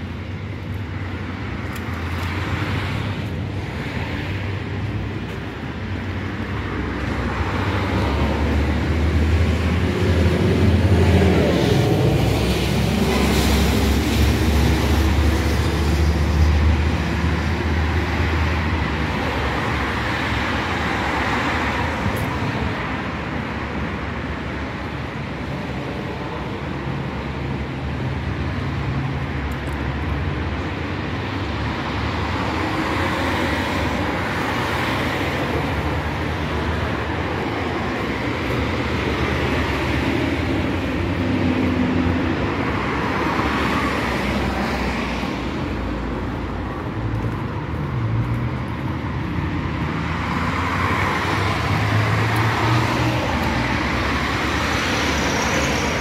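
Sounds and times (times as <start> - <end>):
cars driving along street: 0.0 - 56.0.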